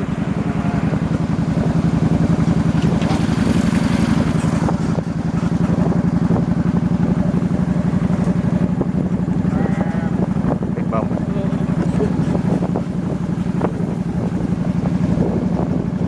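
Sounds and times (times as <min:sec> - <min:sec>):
motorbike engine running: 0:00.0 - 0:16.0
wind rushing over microphone: 0:00.0 - 0:16.0.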